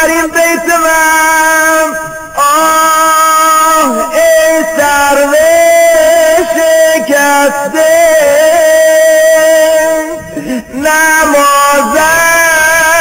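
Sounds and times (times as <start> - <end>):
man singing a lament: 0.0 - 13.0.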